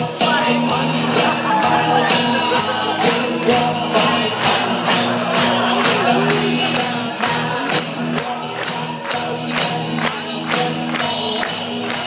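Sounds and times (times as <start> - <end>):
music with singing over a beat: 0.0 - 12.0.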